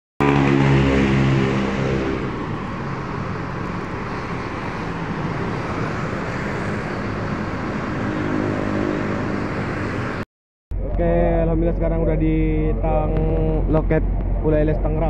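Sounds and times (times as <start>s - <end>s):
traffic rumble and hiss: 0.3s - 10.2s, 10.8s - 15.0s.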